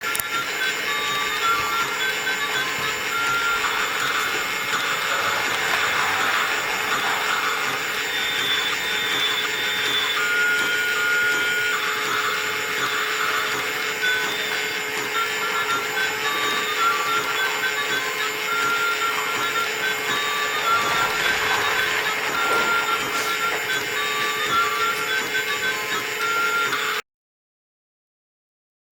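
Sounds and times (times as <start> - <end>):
toy train motor whir: 0.0 - 27.0.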